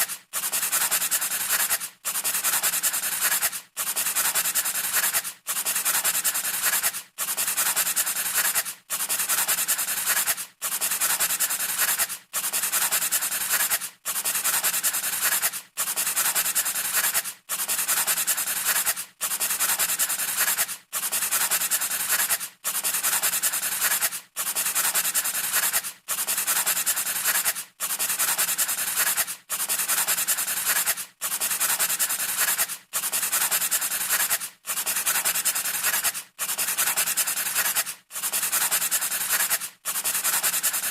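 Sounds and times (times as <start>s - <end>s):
scratchy rubbing on hard surface: 0.0s - 40.9s.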